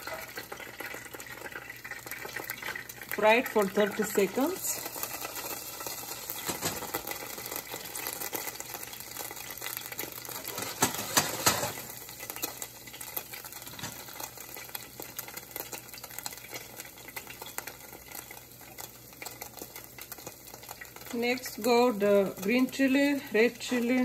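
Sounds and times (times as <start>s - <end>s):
ginger sizzling in hot oil: 0.0s - 24.0s.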